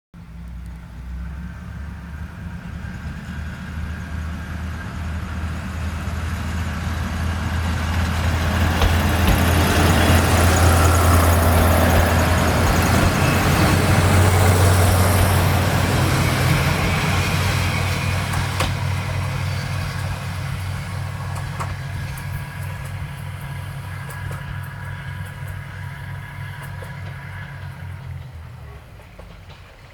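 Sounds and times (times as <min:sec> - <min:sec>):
diesel engine droning: 0:00.2 - 0:29.9.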